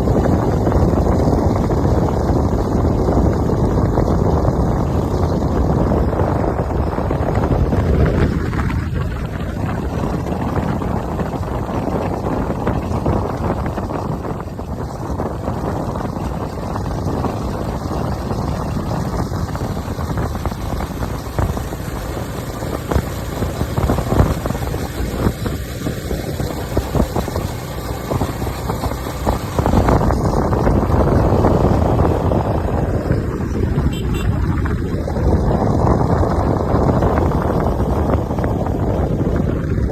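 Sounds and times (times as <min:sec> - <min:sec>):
vehicle engine and road rumble: 0:00.0 - 0:39.9
wind buffeting microphone: 0:00.0 - 0:39.9.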